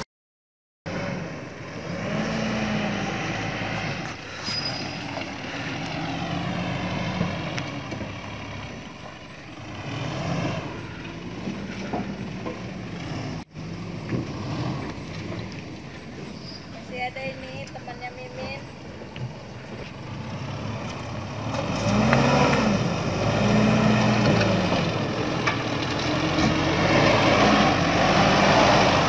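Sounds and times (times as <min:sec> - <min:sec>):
truck engine labouring: 0:00.9 - 0:29.0.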